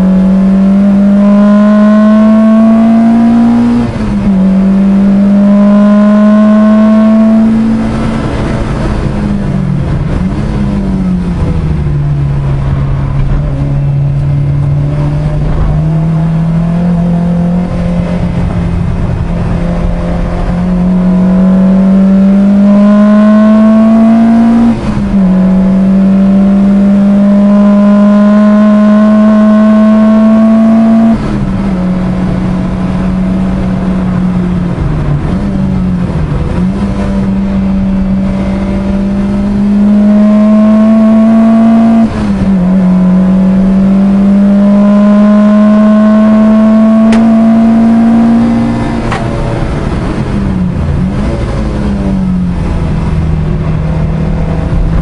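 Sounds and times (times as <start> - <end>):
car engine revving hard: 0.0 - 55.0.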